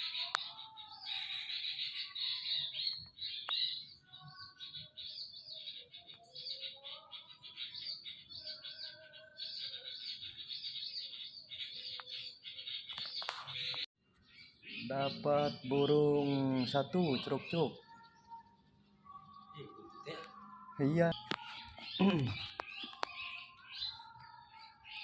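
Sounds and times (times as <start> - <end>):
birds twittering: 0.0 - 25.0.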